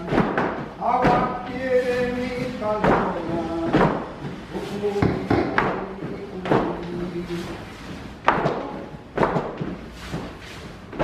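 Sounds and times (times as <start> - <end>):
feet stamping on hard floor: 0.0 - 11.0.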